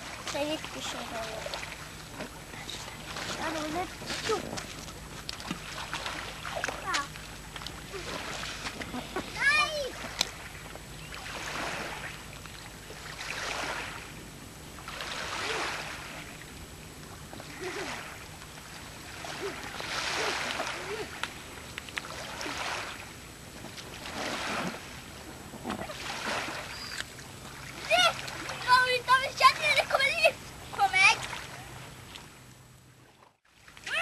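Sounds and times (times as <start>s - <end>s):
small waves washing on stony beach: 0.0s - 14.2s, 14.8s - 16.6s, 17.2s - 26.7s, 27.5s - 32.0s
water sloshing around air mattress: 0.0s - 34.0s.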